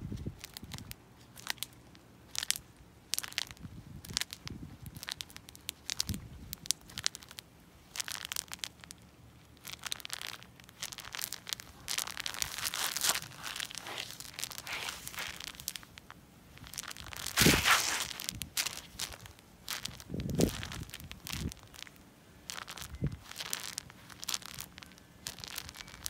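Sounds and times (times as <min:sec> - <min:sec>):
footsteps crunching insects: 0:02.3 - 0:26.0.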